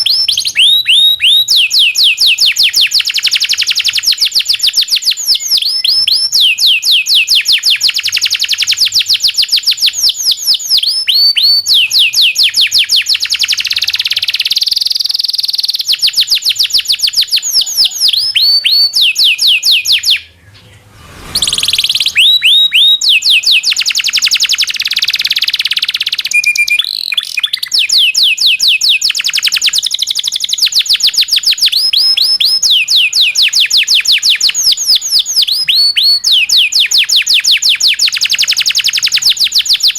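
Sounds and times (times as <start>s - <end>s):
canary singing in trills: 0.0s - 39.9s.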